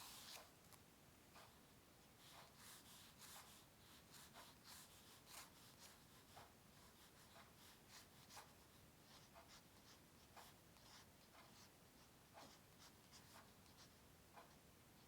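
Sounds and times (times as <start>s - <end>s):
drawing tool scratching paper: 2.2s - 14.5s.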